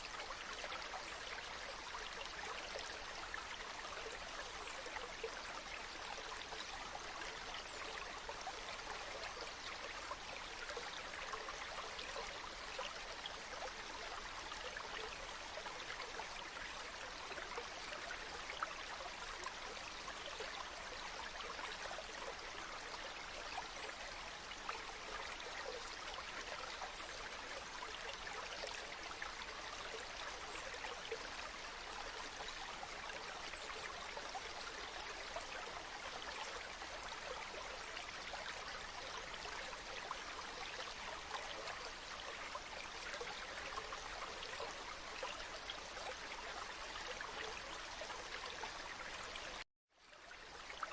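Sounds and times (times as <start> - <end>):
stream water running: 0.0 - 50.9.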